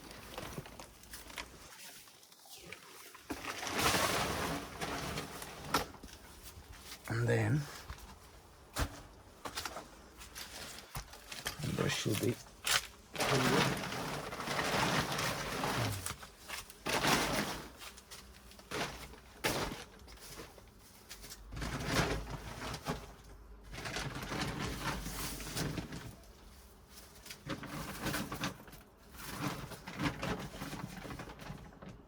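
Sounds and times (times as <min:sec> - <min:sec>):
containers rustling and bumping: 0:03.2 - 0:07.0, 0:07.8 - 0:32.0.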